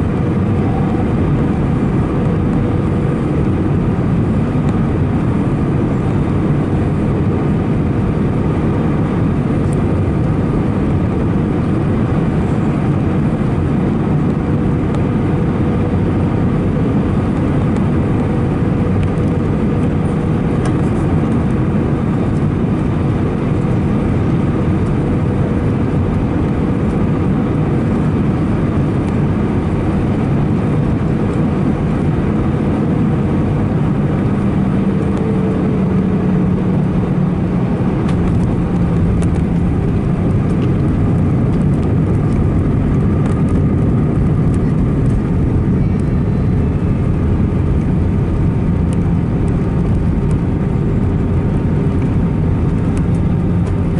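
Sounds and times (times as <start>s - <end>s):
airliner cabin roar: 0.0s - 53.9s.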